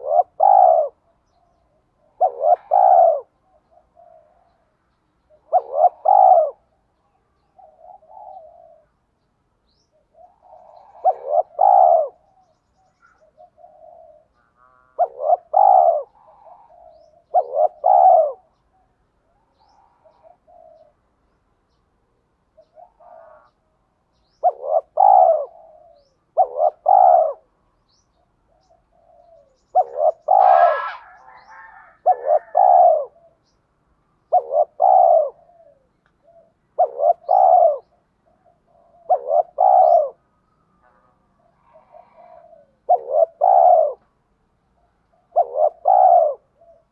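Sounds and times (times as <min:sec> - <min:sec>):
dove cooing: 0:00.0 - 0:09.0, 0:09.9 - 0:21.3, 0:22.5 - 0:33.6, 0:34.2 - 0:46.9.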